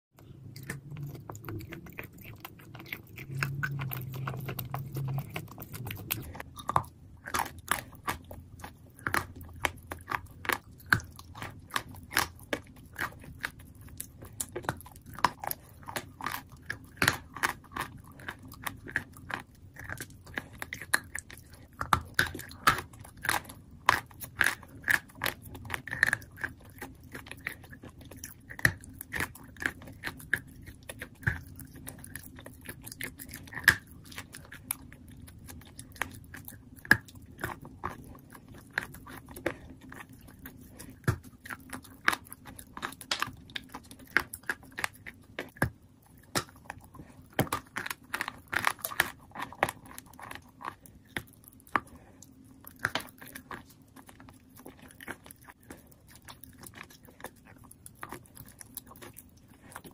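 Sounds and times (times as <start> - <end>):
wet crunchy chewing: 0.2 - 59.9.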